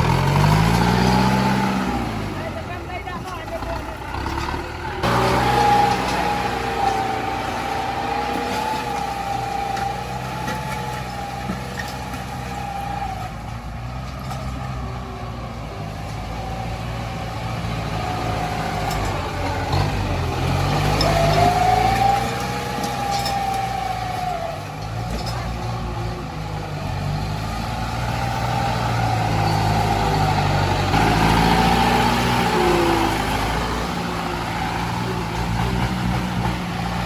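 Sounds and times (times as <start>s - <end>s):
heavy machine engine whining: 0.0s - 37.0s.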